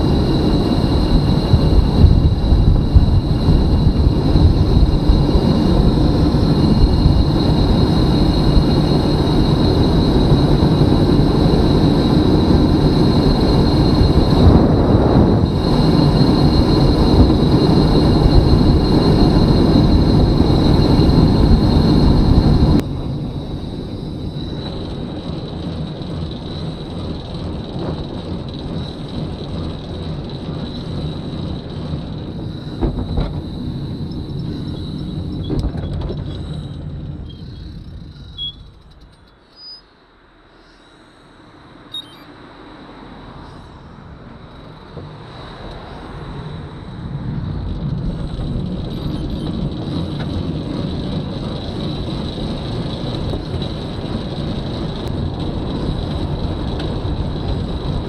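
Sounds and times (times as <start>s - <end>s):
thin high whine: 0.0s - 47.1s
road and wind noise: 0.0s - 58.0s.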